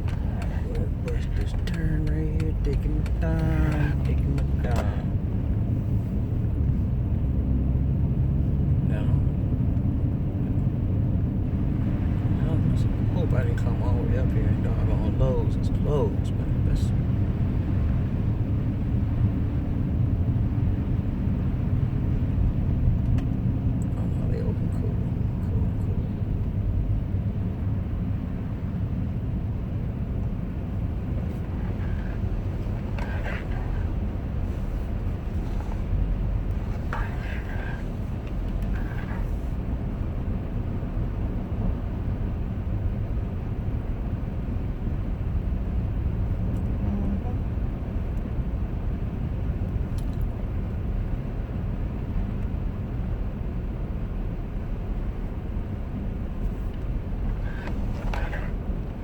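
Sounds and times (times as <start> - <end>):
car tyre and engine rumble: 0.0 - 59.0.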